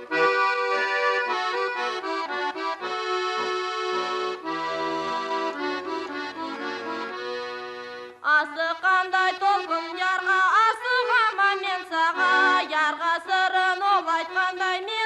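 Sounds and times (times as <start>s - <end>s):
instrumental folk melody over chords: 0.0s - 15.0s.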